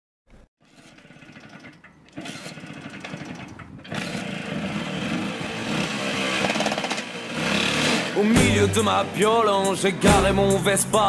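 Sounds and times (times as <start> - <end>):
small scooter engine running: 0.6 - 10.6.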